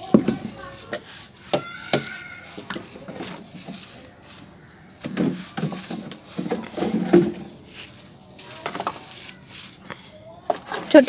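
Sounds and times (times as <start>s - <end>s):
crumbs pattering down: 0.0s - 10.4s.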